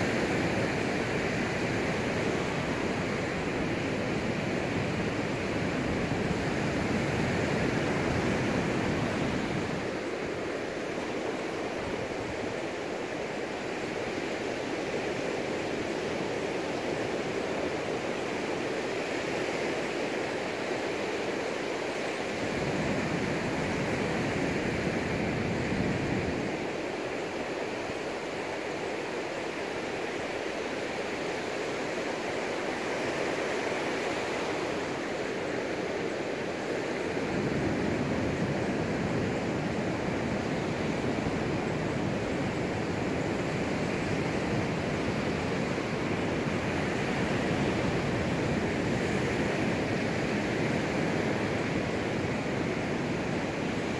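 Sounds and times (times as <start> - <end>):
surf washing up a beach: 0.0 - 53.9.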